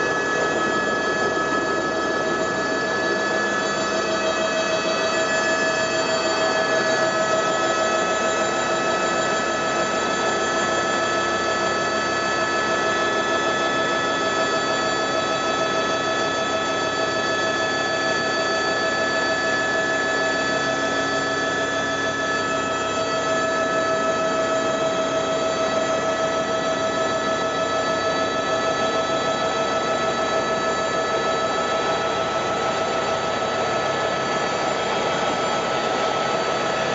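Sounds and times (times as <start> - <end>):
helicopter engine and rotors: 0.0 - 36.9.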